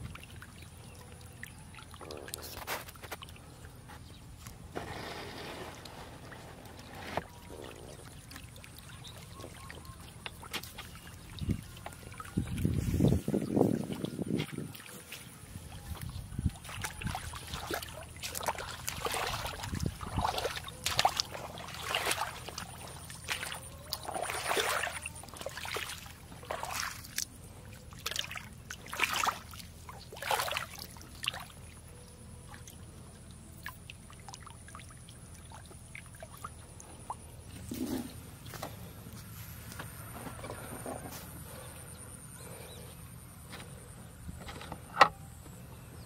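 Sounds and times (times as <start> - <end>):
splashing in muddy water: 0.0 - 38.8.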